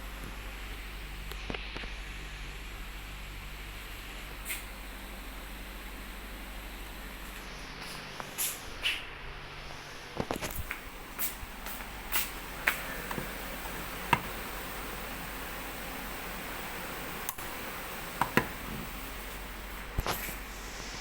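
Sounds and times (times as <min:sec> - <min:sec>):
ceiling fan rushing air: 0:00.0 - 0:21.0.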